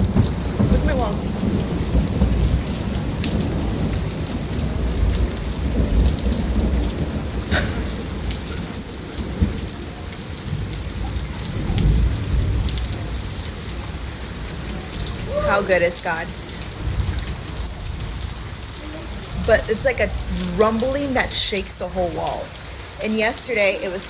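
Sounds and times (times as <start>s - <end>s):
low rolling thunder: 0.0s - 24.0s
steady rain: 0.0s - 24.0s.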